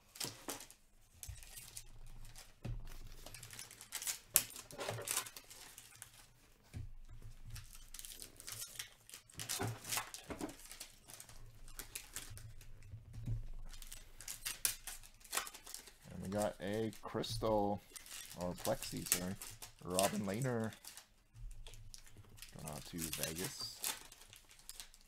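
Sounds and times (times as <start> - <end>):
foil wrapper crinkling and tearing: 0.0 - 6.5, 7.2 - 12.9, 13.6 - 25.0
cards shuffled and tapped: 0.1 - 21.0, 21.6 - 25.0.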